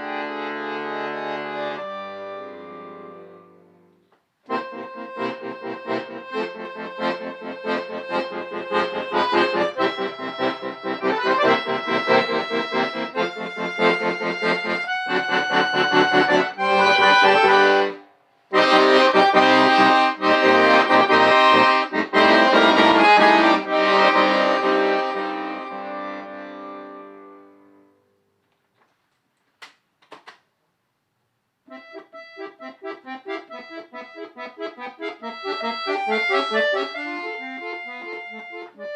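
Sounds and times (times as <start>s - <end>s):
solo instrumental music: 0.0s - 28.4s, 31.7s - 38.9s.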